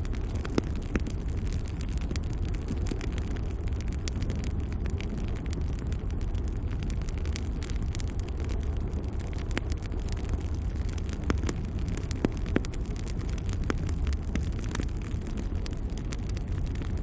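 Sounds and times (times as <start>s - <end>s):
fire burning with low rumble: 0.0s - 17.0s
wood crackling and popping: 0.0s - 17.0s.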